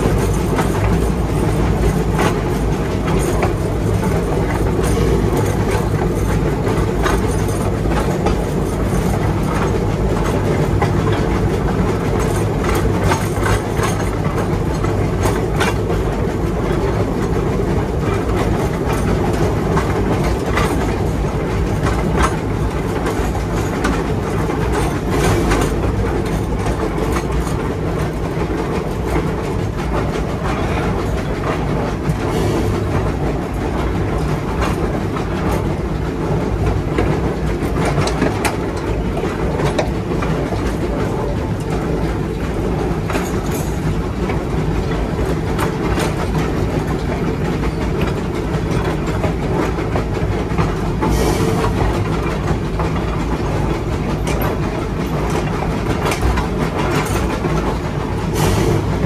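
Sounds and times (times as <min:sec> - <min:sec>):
steam locomotive rumbling: 0:00.0 - 0:59.0
wheels clanking over rail joints: 0:00.0 - 0:59.0.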